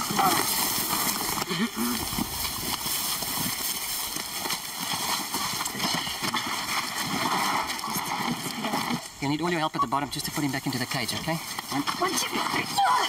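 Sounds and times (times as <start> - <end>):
footsteps in dry grass: 0.0 - 9.2, 9.8 - 13.0.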